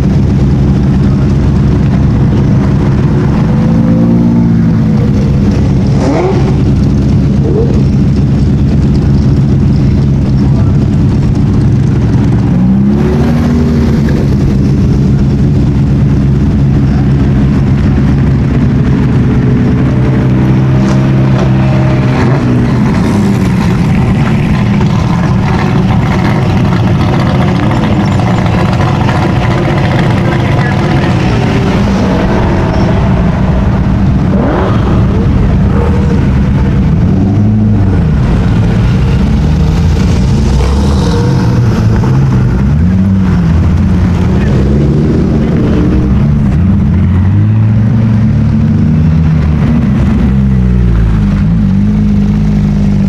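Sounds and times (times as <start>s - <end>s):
sports car engines droning: 0.0s - 53.0s.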